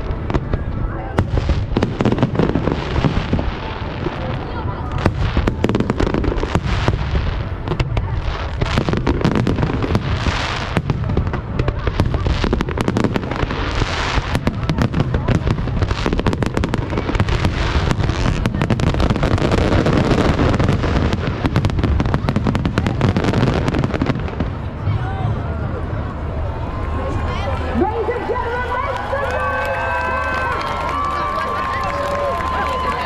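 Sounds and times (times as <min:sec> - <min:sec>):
fireworks bangs and crackles: 0:00.0 - 0:26.7, 0:27.5 - 0:33.0.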